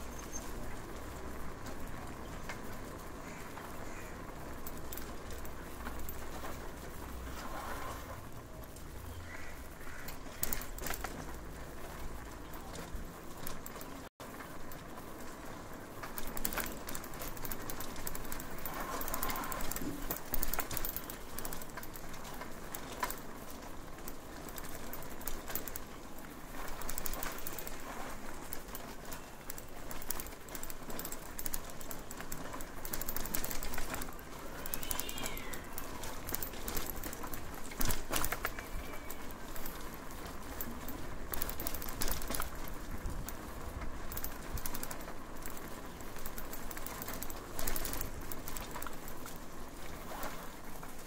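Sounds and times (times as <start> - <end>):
bicycle clicks and rattles: 0.0 - 51.0
bicycle rolling rumble: 0.0 - 51.0.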